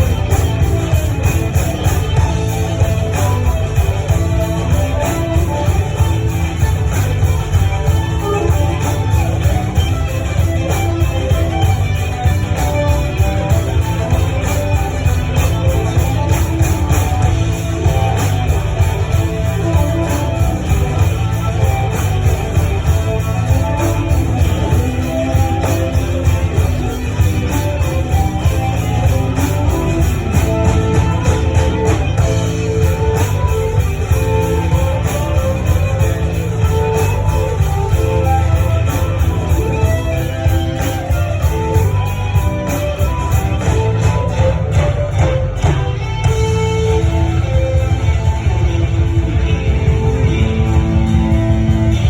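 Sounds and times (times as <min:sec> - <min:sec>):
folk-rock band playing: 0:00.0 - 0:52.0
guitars: 0:00.0 - 0:52.0.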